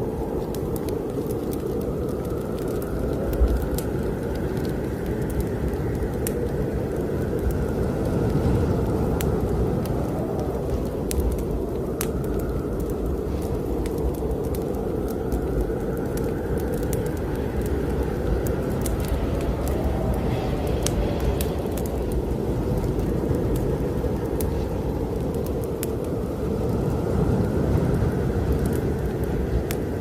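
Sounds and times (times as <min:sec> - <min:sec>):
snowstorm wind rushing: 0:00.0 - 0:30.0
wood fire crackling and popping: 0:00.0 - 0:30.0.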